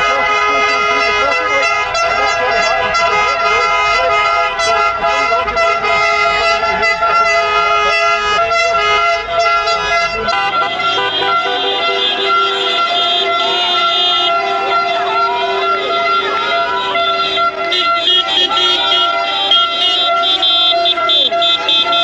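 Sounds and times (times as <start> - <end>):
car horns honking: 0.0 - 22.0
voices: 0.0 - 22.0.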